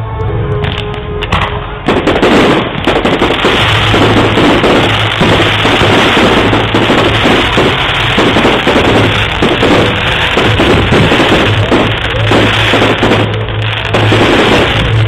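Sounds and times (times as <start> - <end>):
fireworks bursting and crackling: 0.6 - 15.0.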